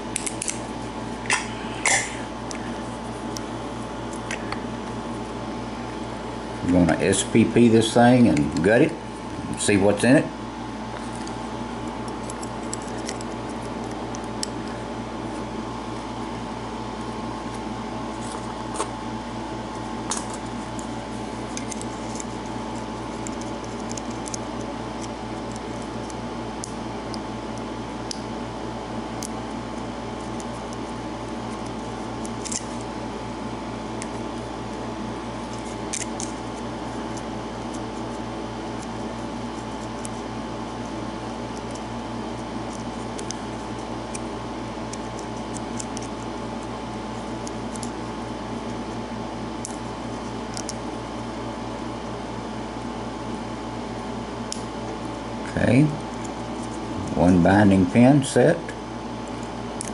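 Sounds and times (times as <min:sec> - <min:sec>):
background hum: 0:00.0 - 0:59.9.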